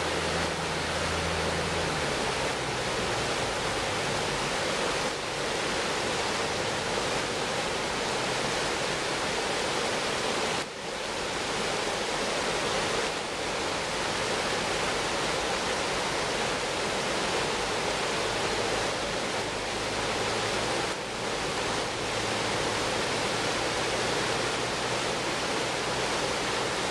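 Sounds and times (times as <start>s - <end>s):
water rushing over rocks: 0.0s - 26.9s.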